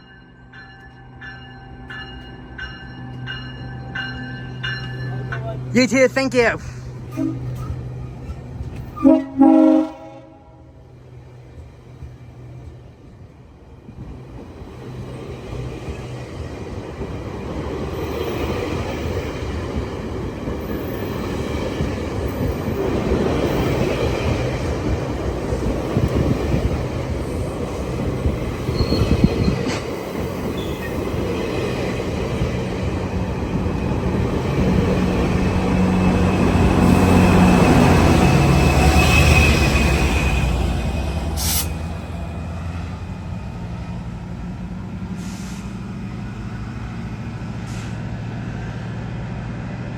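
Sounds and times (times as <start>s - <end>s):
train rolling on rails: 0.0s - 49.9s.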